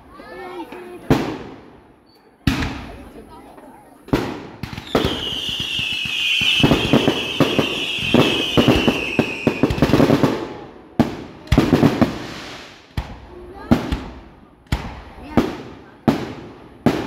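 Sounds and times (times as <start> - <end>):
firework bangs: 0.6 - 17.0
firework crackling: 2.4 - 17.0.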